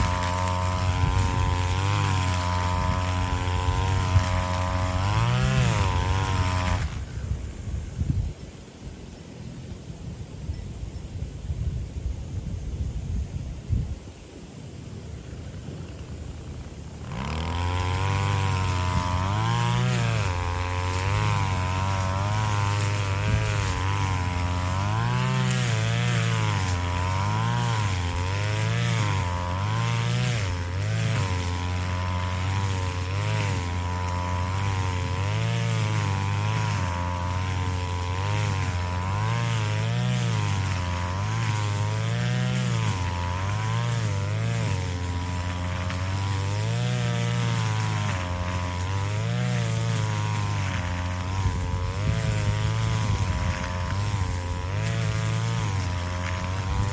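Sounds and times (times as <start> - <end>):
grass cutter engine revving: 0.0 - 7.4, 15.3 - 56.9.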